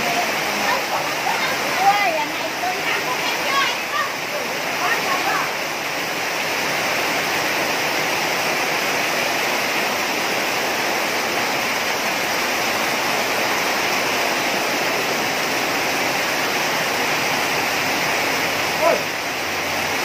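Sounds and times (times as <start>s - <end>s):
heavy rain on water: 0.0s - 20.0s.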